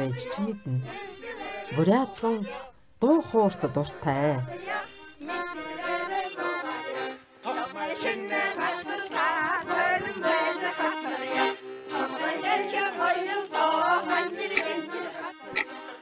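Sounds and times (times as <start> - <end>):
button accordion: 0.0 - 16.0
group singing folk song: 0.0 - 16.0.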